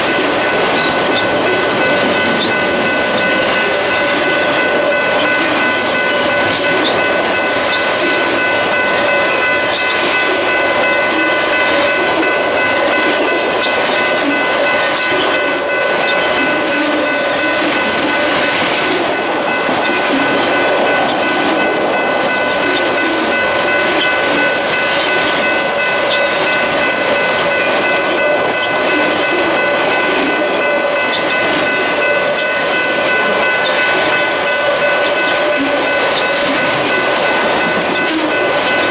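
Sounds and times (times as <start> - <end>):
train wheels rumbling and clicking: 0.0 - 38.9.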